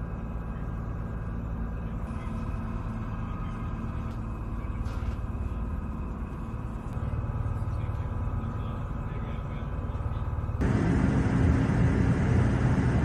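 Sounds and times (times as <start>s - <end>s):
vehicle engine rumbling: 0.3s - 13.0s.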